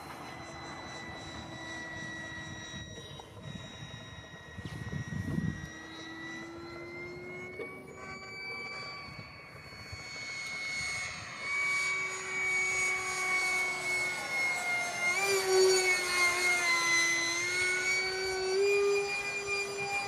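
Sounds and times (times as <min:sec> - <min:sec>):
model jet engine whine: 0:00.0 - 0:20.0.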